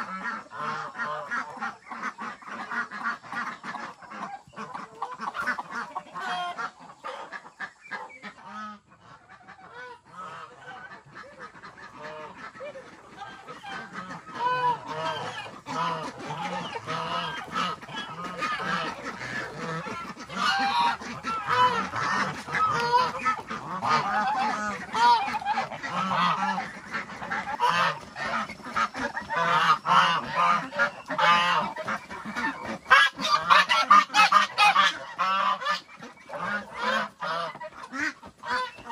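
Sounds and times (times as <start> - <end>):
poultry calling: 0.0 - 38.9.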